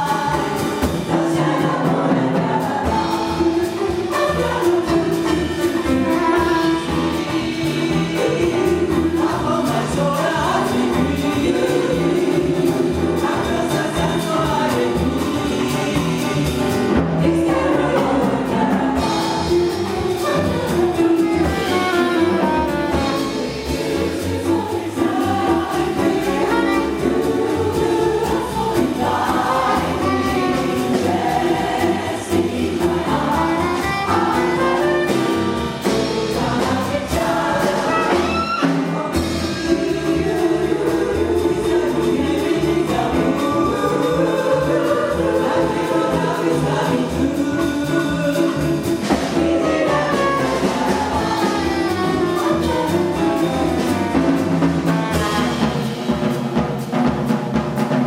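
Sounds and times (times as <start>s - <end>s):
vocal chorus singing in harmony: 0.0s - 57.2s
small jazz band: 0.0s - 58.0s.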